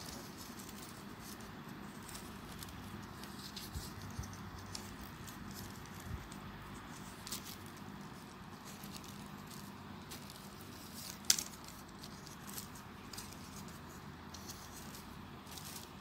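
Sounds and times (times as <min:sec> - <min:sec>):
low background hum: 0:00.0 - 0:16.0
paper rustling and ticking: 0:00.0 - 0:16.0.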